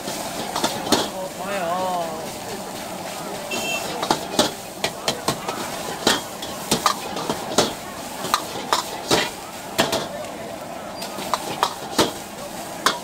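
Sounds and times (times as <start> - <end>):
metal utensils scraping a wok: 0.0 - 10.2, 10.9 - 13.0
frying sizzle: 0.0 - 13.0.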